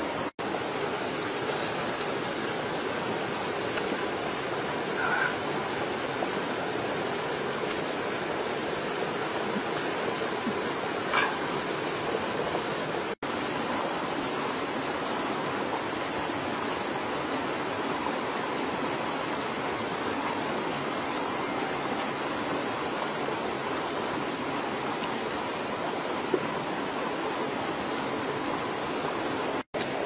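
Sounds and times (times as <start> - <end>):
stream rushing: 0.0 - 30.0.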